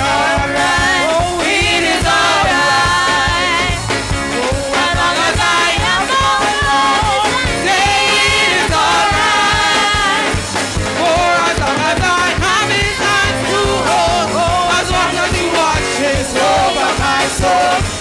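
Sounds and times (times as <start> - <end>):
drum kit beat: 0.0 - 18.0
gospel singers with band: 0.0 - 18.0.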